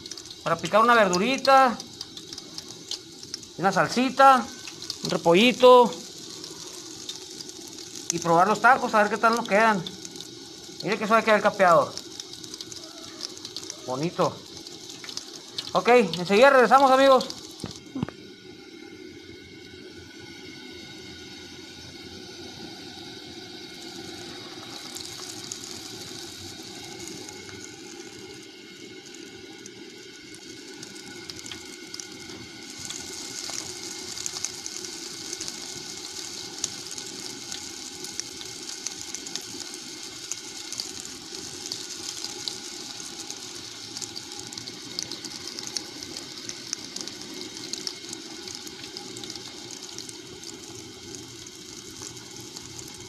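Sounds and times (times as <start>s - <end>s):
sharp oil crackles: 0.0s - 18.8s, 20.7s - 53.0s
food sizzling in hot oil: 0.0s - 53.0s.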